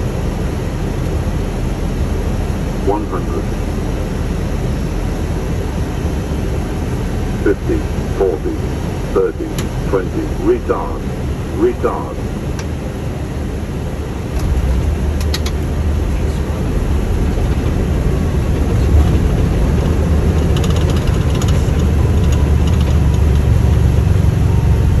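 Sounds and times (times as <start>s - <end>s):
airplane rolling on runway: 0.0s - 25.0s.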